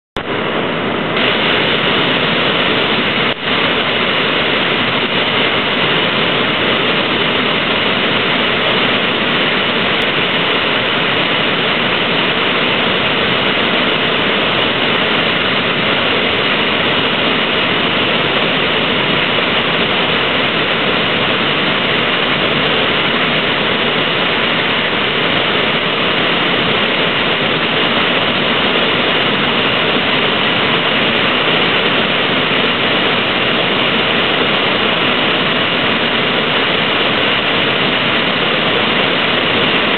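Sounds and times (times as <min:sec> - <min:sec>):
whitewater rushing: 0:00.2 - 0:39.9.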